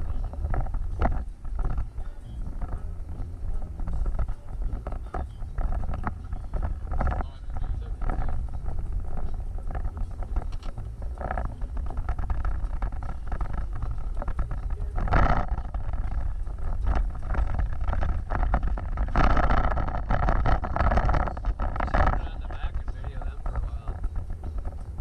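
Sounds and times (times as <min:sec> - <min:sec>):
off-road vehicle rumbling: 0:00.0 - 0:25.0.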